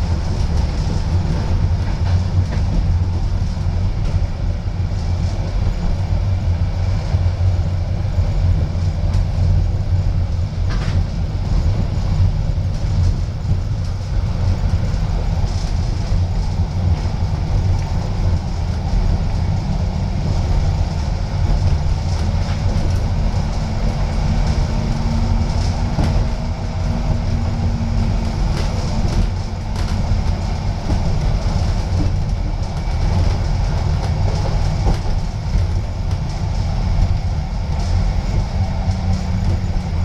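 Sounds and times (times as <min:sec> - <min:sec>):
tram wheels rumbling: 0:00.0 - 0:40.0.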